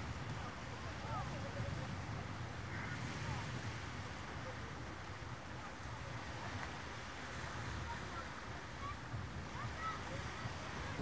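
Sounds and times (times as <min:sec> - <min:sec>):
sea surf: 0:00.0 - 0:11.0
wind buffeting microphone: 0:00.0 - 0:11.0.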